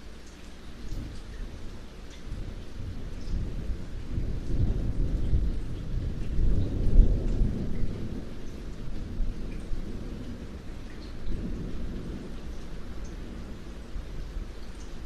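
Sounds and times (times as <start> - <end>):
rain falling: 0.0 - 15.0
low rumble of thunder: 0.8 - 15.0.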